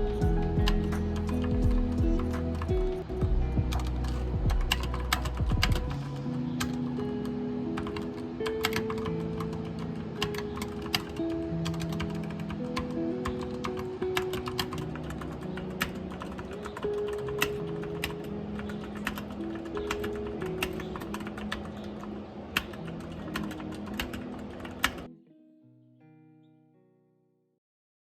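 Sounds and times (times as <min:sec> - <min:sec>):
computer keyboard typing: 0:00.0 - 0:06.8, 0:07.8 - 0:25.1
soft background music: 0:00.0 - 0:25.6.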